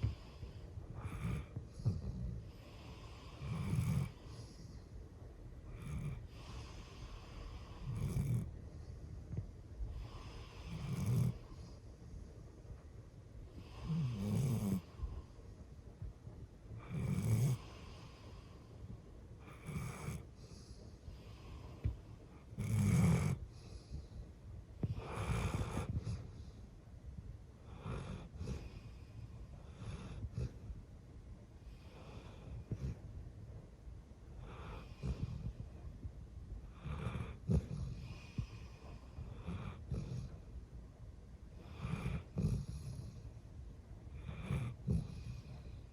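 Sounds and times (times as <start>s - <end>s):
dog snoring: 0.0s - 5.0s, 5.6s - 12.2s, 13.5s - 15.4s, 16.7s - 24.2s, 24.8s - 26.6s, 27.6s - 30.8s, 31.6s - 33.1s, 34.4s - 40.5s, 41.5s - 43.4s, 44.1s - 45.9s.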